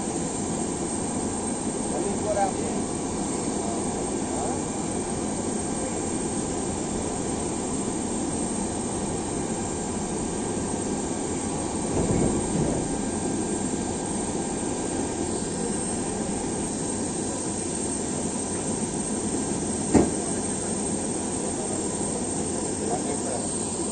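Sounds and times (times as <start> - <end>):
jet engine noise: 0.0 - 23.9.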